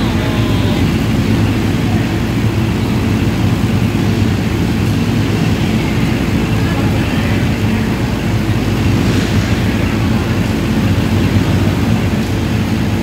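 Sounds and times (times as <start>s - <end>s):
kart engines idling: 0.0s - 13.0s.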